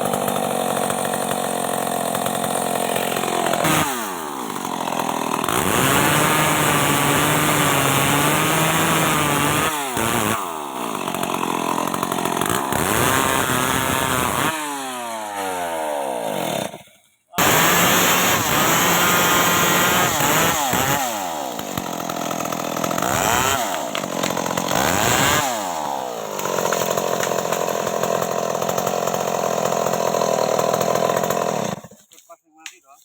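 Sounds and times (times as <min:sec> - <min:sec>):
chainsaw revving: 0:00.0 - 0:32.1.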